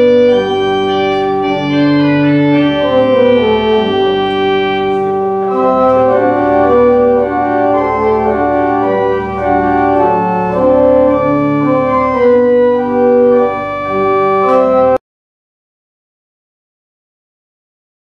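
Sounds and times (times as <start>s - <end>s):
held organ bass note: 0.0s - 15.0s
pipe organ chords: 0.0s - 15.0s.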